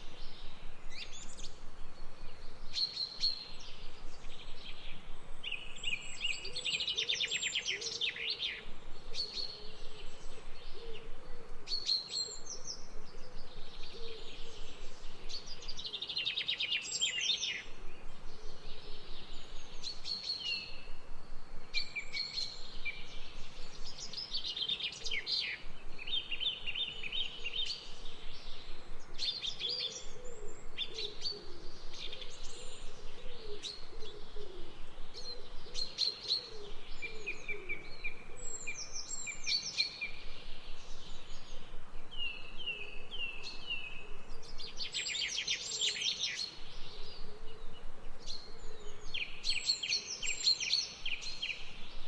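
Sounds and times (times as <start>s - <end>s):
small songbirds chirping and trilling: 0.0s - 52.0s.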